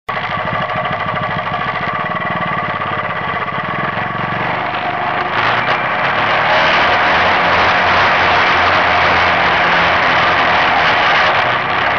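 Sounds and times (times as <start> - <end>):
quad engine running and revving: 0.1 - 11.9.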